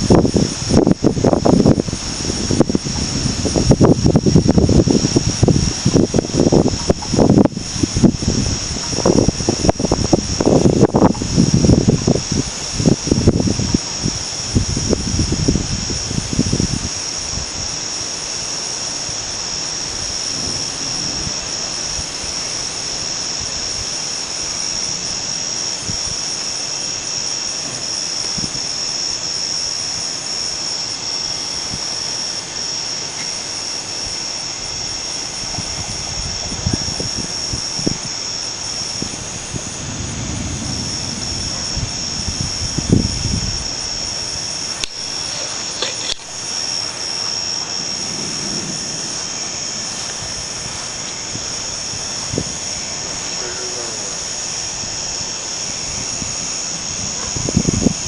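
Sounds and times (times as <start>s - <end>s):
gusty wind buffeting microphone: 0.0s - 58.0s
high-pitched whine: 0.0s - 58.0s
steady hiss: 0.0s - 58.0s.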